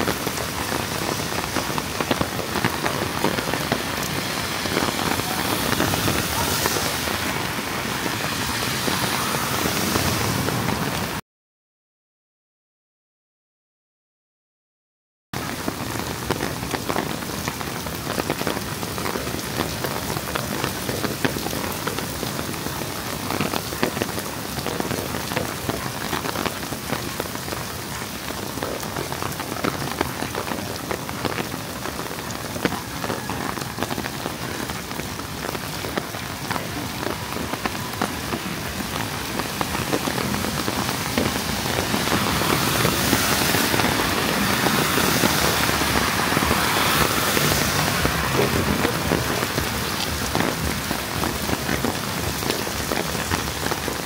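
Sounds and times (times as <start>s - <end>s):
heavy rain falling: 0.0s - 11.2s, 15.4s - 54.0s
raindrops ticking close by: 0.0s - 11.2s, 15.4s - 54.0s.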